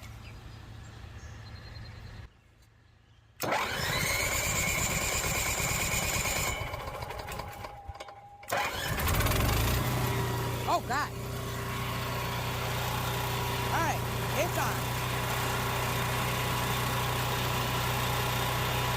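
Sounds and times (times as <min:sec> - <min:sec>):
generator running rough with whine: 0:03.4 - 0:18.9.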